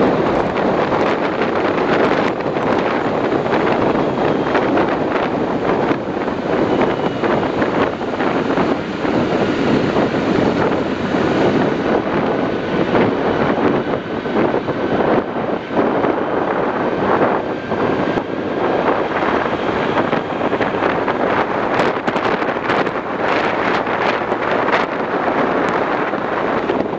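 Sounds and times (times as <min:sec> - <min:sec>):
traffic and engine noise: 0:00.0 - 0:26.9
wind buffeting microphone: 0:00.0 - 0:26.9.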